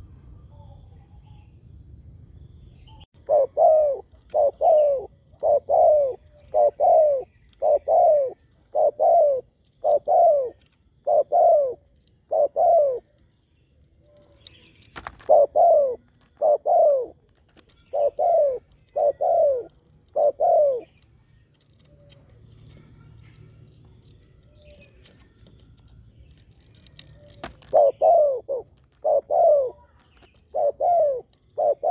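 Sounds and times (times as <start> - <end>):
dove cooing: 3.2 - 23.5, 26.6 - 31.9.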